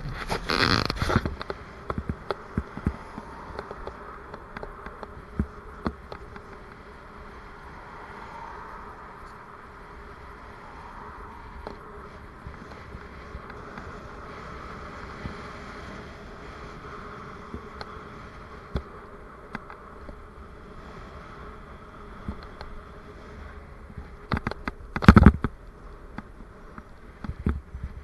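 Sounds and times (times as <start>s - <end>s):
bicycle buzz and hum: 0.0s - 28.0s.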